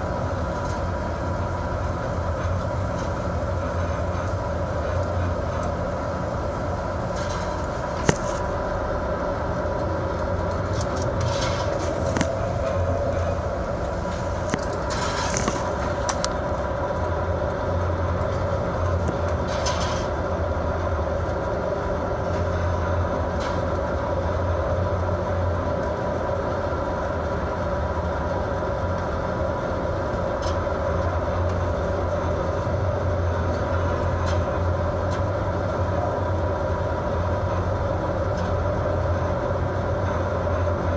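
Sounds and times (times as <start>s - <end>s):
boat engines droning: 0.0s - 40.9s.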